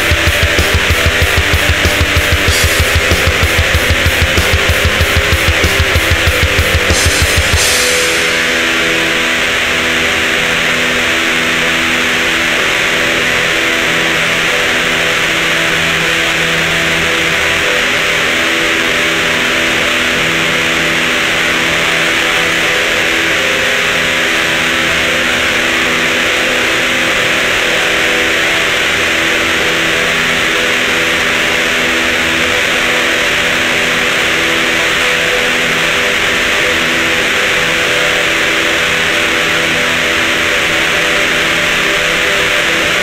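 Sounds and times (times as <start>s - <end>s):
distorted electric guitars: 0.0s - 43.0s.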